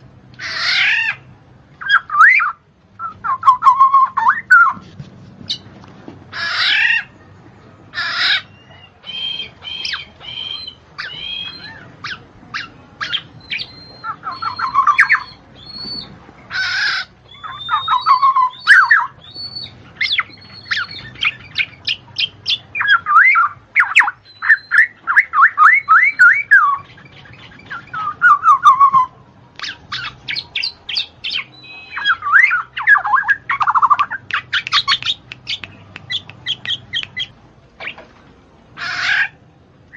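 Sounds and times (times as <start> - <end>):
songbird singing: 0.0 - 4.8, 6.3 - 38.1.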